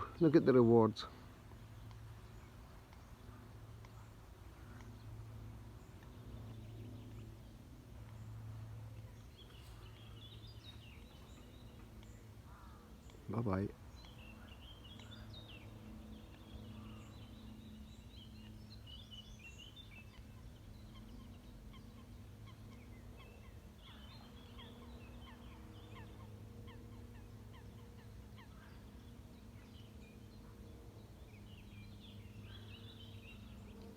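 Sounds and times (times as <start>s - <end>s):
faint birdsong chirps and whistles: 0.0s - 33.9s
low steady hum: 0.0s - 33.9s.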